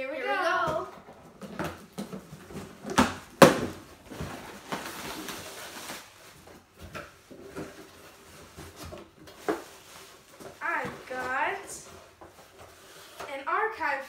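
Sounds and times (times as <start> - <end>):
cardboard boxes being opened: 0.6 - 13.3
packing rustling: 1.0 - 13.2.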